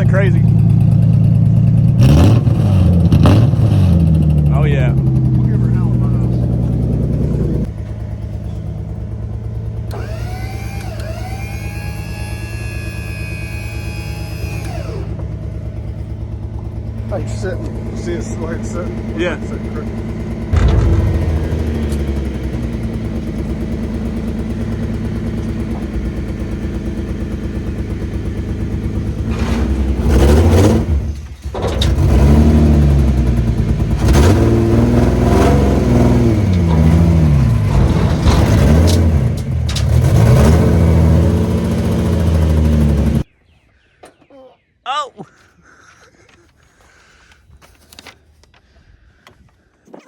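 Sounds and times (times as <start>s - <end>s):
car engine idling and revving: 0.0s - 43.3s.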